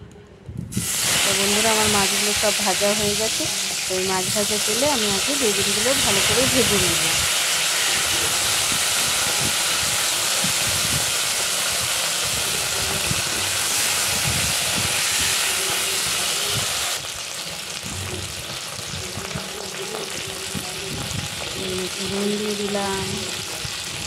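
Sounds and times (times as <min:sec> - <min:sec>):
food frying in hot oil: 0:00.7 - 0:24.0.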